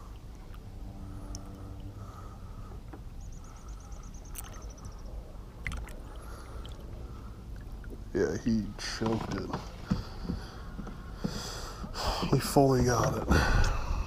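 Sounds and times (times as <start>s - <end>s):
kayak hull and water noise: 0.0s - 14.0s.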